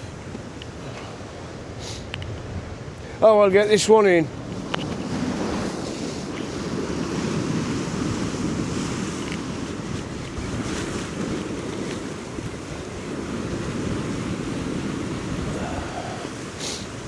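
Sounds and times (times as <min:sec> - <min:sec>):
sea waves on rocky shore: 0:00.0 - 0:17.0
wind buffeting microphone: 0:00.0 - 0:17.0.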